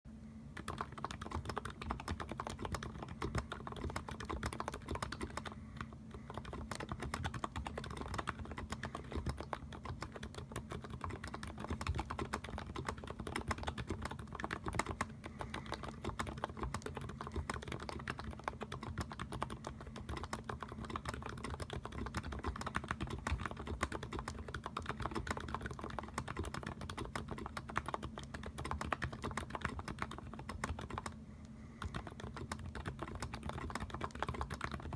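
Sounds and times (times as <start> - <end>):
fast mechanical keyboard typing: 0.6 - 31.2, 31.8 - 34.9.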